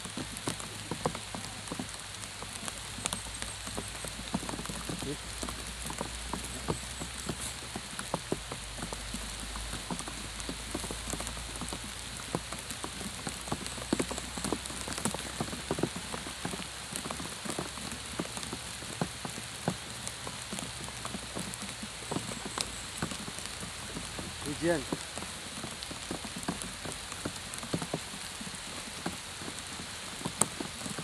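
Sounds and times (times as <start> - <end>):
raindrop taps close by: 0.0 - 31.0
steady rain falling: 0.0 - 31.0.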